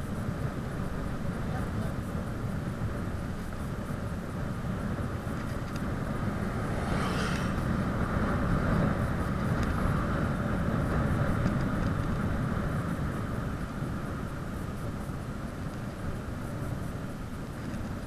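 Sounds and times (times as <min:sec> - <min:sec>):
tyres rumbling on asphalt: 0:00.0 - 0:18.0
wind buffeting microphone: 0:00.0 - 0:18.0.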